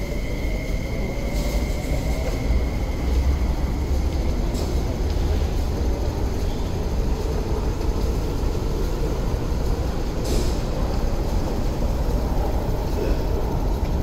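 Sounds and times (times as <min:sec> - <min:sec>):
electric train rumbling past: 0:00.0 - 0:14.0.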